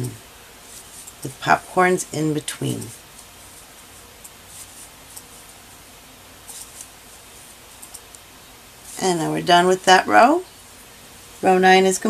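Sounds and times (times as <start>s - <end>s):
low steady hiss: 0.0s - 12.0s
yarn rustling over crochet hook: 0.0s - 12.0s.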